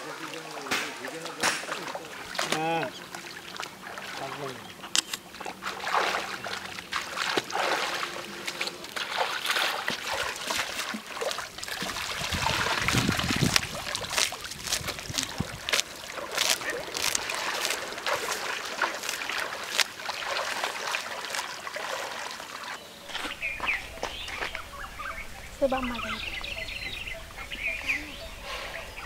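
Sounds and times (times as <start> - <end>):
water splashing and trickling: 0.0 - 29.0.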